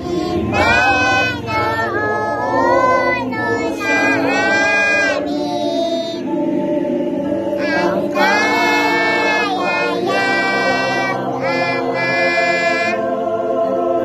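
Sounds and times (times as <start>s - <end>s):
girl and woman singing: 0.0s - 6.2s, 7.6s - 13.0s
musical accompaniment: 0.0s - 14.0s.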